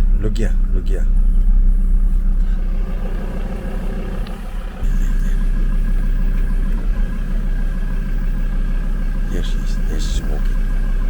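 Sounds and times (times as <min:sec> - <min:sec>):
car engine rumbling inside vehicle: 0:00.0 - 0:11.0.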